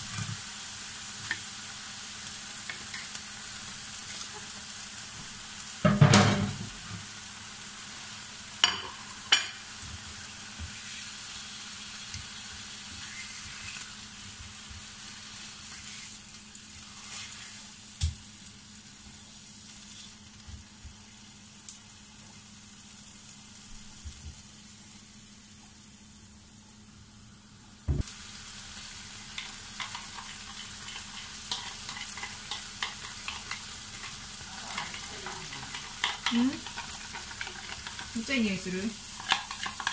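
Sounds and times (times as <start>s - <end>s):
pork sizzling in frying pan: 0.0s - 39.9s.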